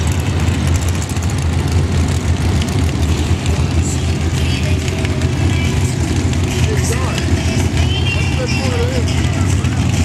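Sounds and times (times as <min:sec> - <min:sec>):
dragster engine idling: 0:00.0 - 0:10.0.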